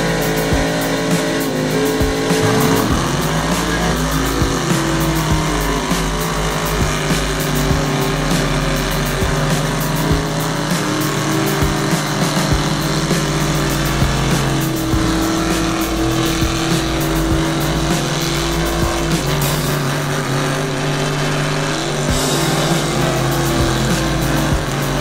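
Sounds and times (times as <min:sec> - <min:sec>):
tires spinning in dirt: 0:00.0 - 0:25.0
truck engine revving high: 0:00.0 - 0:25.0.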